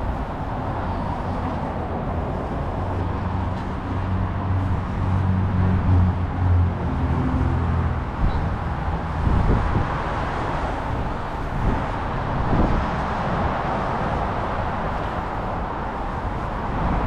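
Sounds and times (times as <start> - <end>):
heavy vehicle passing: 0.0 - 17.0.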